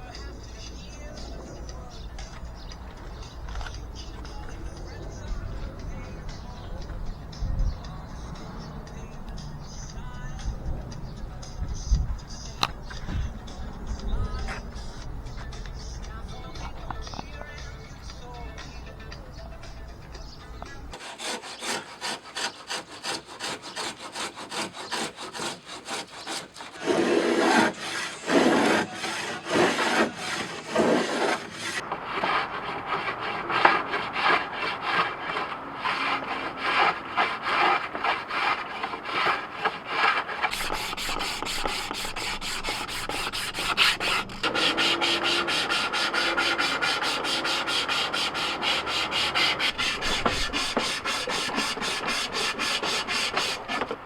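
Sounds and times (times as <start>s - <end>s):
sanding wood by hand: 0.0s - 54.0s.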